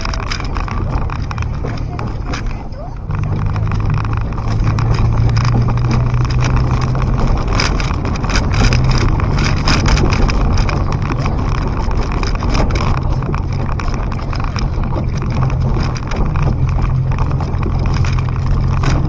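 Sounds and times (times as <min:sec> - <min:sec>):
car engine drone: 0:00.0 - 0:19.0
car knocks and rattles on bumps: 0:00.0 - 0:19.0.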